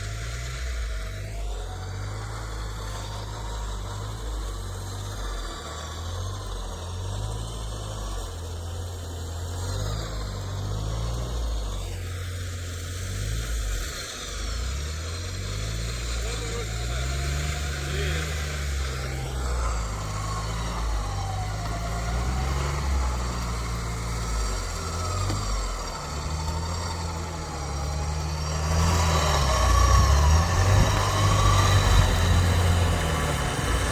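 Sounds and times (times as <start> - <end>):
off-road vehicle engine rumbling: 0.0 - 33.9.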